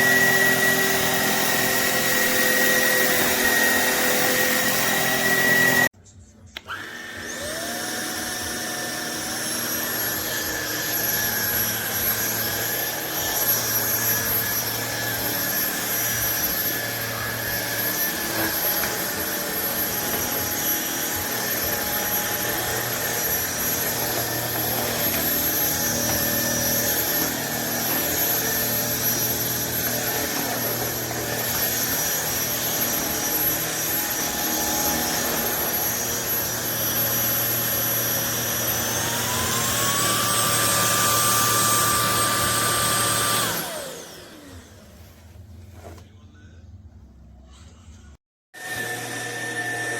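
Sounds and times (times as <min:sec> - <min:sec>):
vacuum motor whine: 0:00.0 - 0:05.9, 0:06.6 - 0:45.1, 0:48.6 - 0:49.9.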